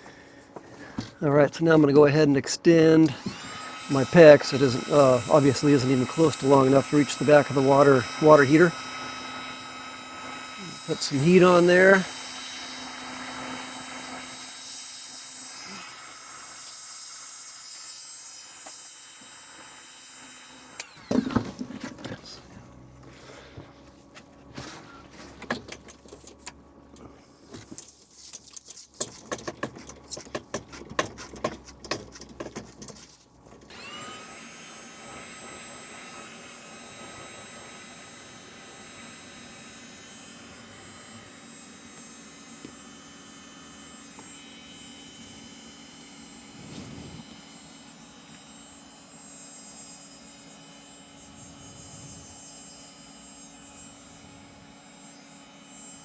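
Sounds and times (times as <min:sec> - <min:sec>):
heat gun fan whirring: 0:00.0 - 0:23.7, 0:33.6 - 0:56.0.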